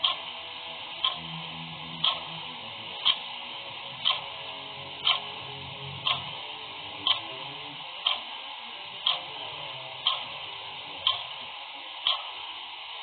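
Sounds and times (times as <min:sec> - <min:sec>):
clock ticking: 0:00.0 - 0:07.4, 0:08.0 - 0:08.4, 0:09.0 - 0:12.5.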